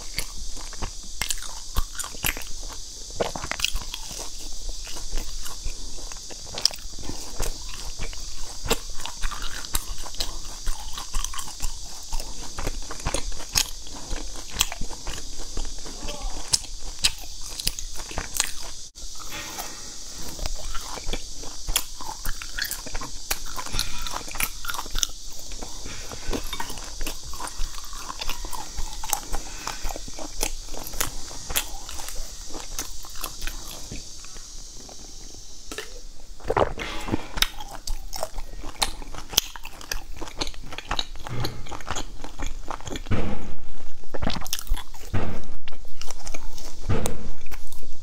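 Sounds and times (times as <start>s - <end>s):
crunchy biting and chewing: 0.0s - 48.0s
steady hiss: 0.0s - 48.0s.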